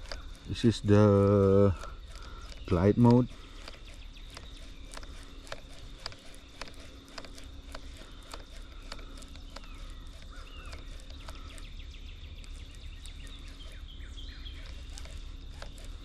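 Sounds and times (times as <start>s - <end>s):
bird chirping: 0.0s - 16.0s
irregular ticks: 0.0s - 16.0s.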